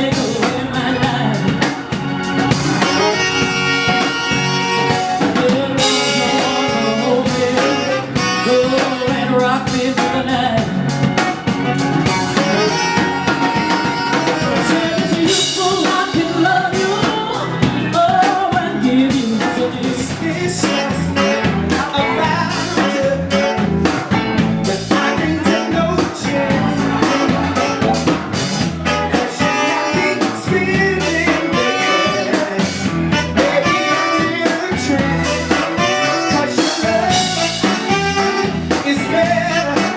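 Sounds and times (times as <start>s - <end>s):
woman singing: 0.0s - 1.9s, 4.6s - 11.5s, 12.2s - 39.9s
live blues band playing: 0.0s - 39.9s.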